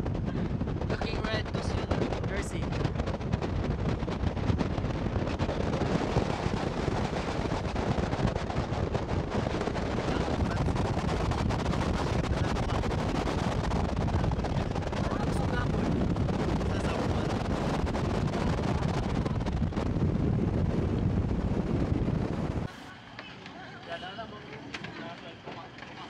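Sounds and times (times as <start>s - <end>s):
wind buffeting on microphone: 0.0s - 22.8s.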